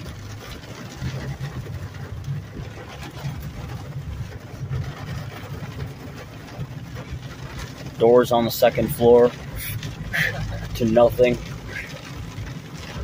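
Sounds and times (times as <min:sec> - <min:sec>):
car engine and road rumble: 0:00.0 - 0:13.0
rain hiss: 0:00.0 - 0:13.0.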